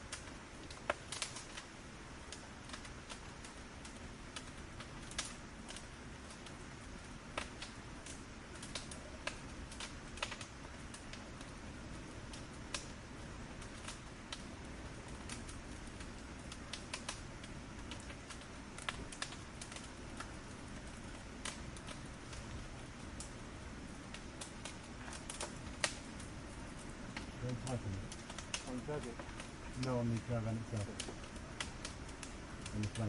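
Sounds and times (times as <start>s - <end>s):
low hiss: 0.0s - 33.0s
wood fire crackling: 0.0s - 33.0s.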